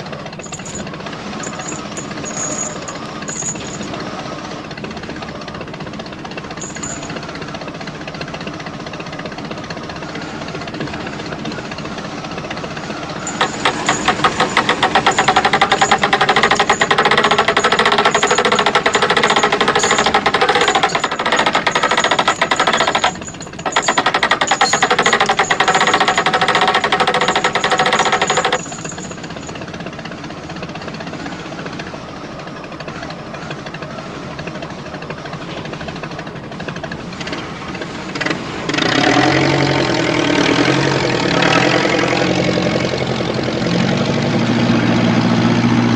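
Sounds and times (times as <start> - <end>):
deeper engine sound: 0.0 - 45.9
power saw engine running: 0.0 - 45.9.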